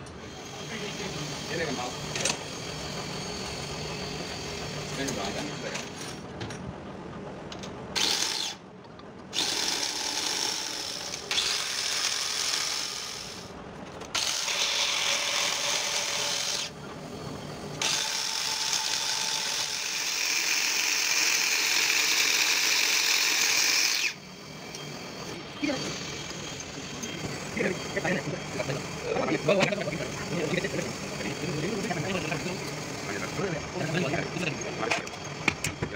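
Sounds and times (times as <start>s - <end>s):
valve seat grinder whine: 0.0s - 6.0s, 8.0s - 8.6s, 9.3s - 13.5s, 14.1s - 35.9s.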